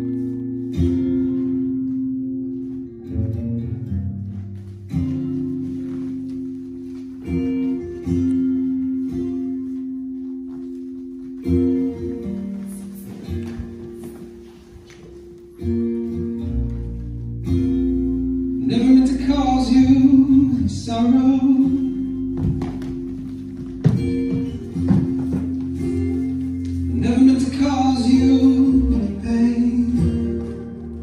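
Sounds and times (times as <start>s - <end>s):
slow music with ringing chords: 0.0s - 31.0s.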